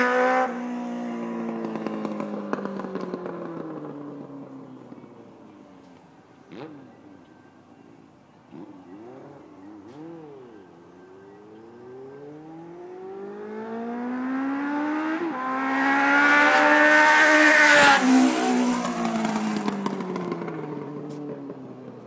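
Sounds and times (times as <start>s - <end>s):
motorcycle accelerating past: 0.0s - 5.3s, 6.5s - 7.1s, 8.5s - 22.0s.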